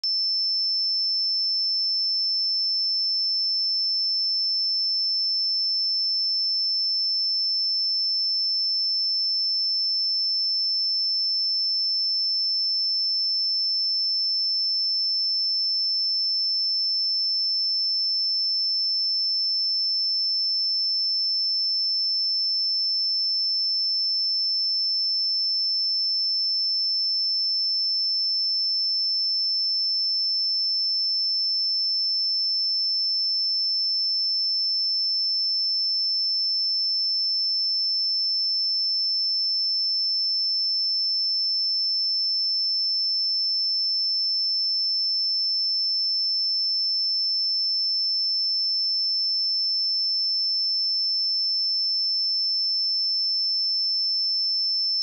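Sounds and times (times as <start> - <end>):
high-pitched sine test tone: 0.0 - 55.0.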